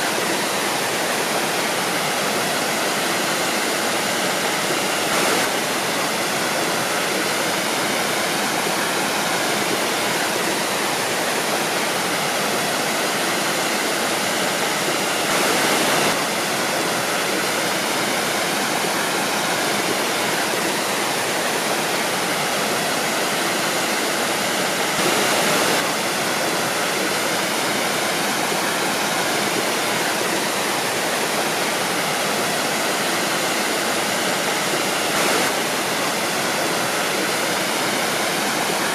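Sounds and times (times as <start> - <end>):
waterfall crashing: 0.0 - 38.9.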